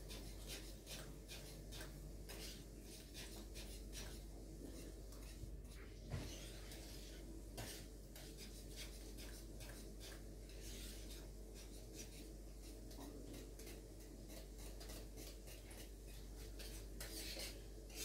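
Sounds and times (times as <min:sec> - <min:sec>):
whisk scraping glass bowl: 0:00.0 - 0:18.0.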